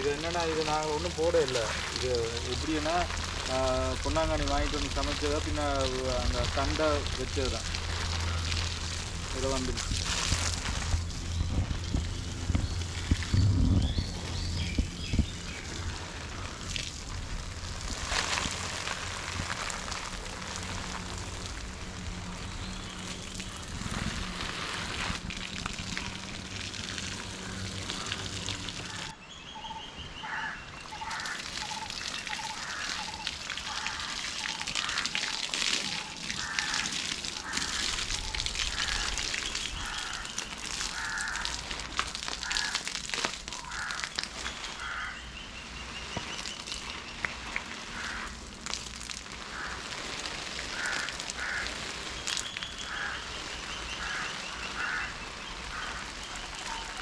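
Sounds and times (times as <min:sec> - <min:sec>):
birds calling: 0:00.0 - 0:17.1, 0:25.6 - 0:48.4, 0:49.5 - 0:57.0
hose water splashing on plants: 0:00.0 - 0:29.2, 0:30.3 - 0:57.0.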